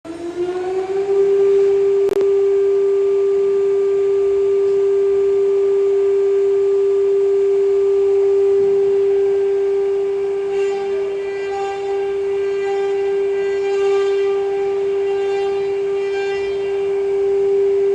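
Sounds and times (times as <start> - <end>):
router spindle whine: 0.1 - 17.9.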